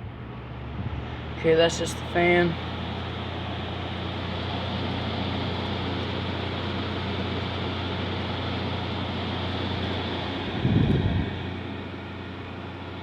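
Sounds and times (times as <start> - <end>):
air conditioner fan whoosh: 0.0 - 13.0.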